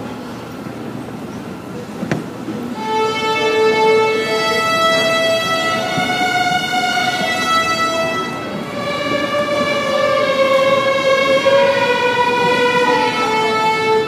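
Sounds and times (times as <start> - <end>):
string orchestra holding long notes: 2.4 - 14.0.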